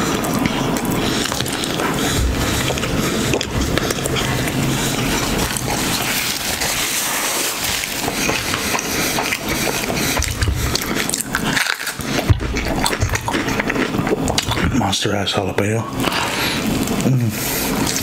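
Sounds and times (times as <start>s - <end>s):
man chewing: 0.0s - 15.3s, 15.9s - 18.0s.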